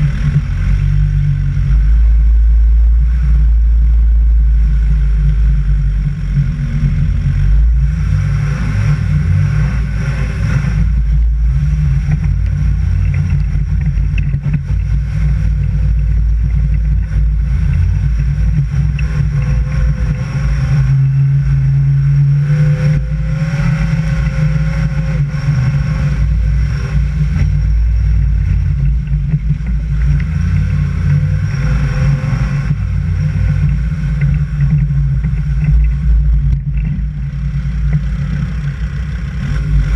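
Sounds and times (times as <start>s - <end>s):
off-road vehicle engine: 0.0s - 39.9s
wind and road noise rumble: 0.0s - 39.9s.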